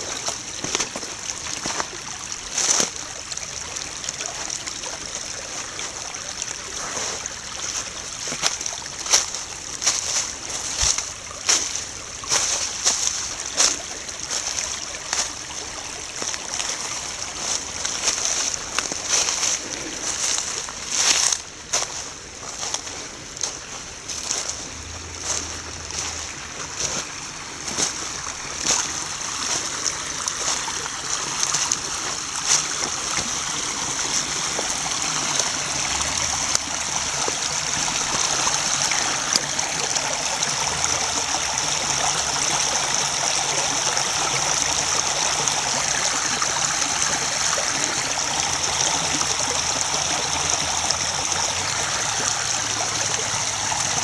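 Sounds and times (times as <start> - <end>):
brook babbling over rocks: 0.0 - 54.0.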